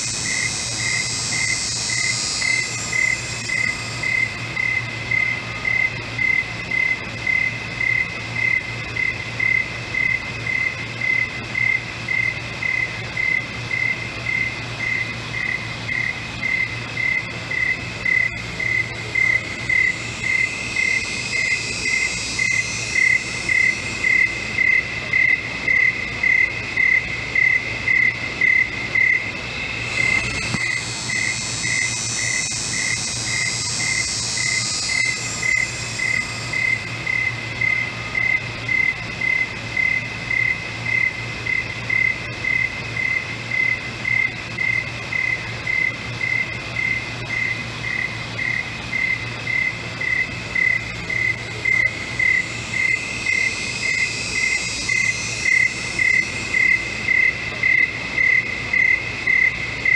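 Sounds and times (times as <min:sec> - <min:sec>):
continuous insect trill: 0:00.0 - 0:59.9
cricket chirping: 0:00.0 - 0:59.9
high bright insect trill: 0:00.0 - 0:59.9.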